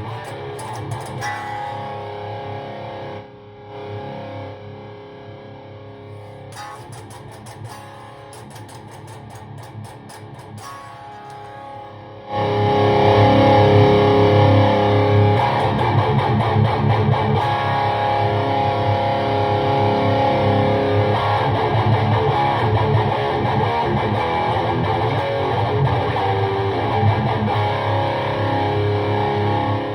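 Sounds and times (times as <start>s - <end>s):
electric guitar through amp: 0.0s - 29.9s.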